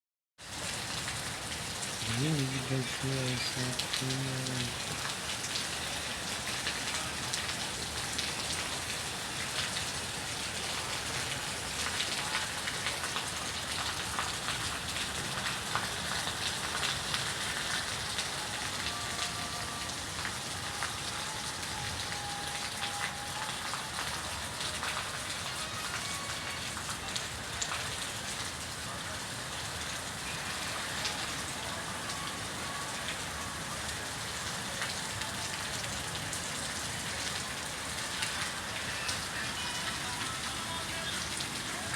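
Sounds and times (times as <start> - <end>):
steady rain falling: 0.4 - 41.9.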